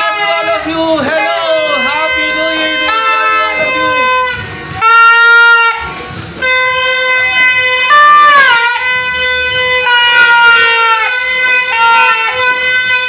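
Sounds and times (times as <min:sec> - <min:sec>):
wind instrument long notes: 0:00.0 - 0:13.0.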